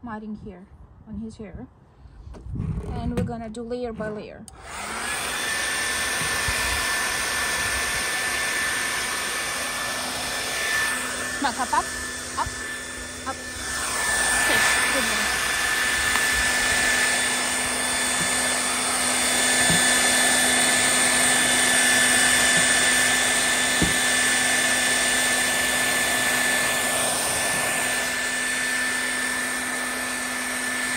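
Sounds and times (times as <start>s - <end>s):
blow dryer running: 4.5s - 30.9s.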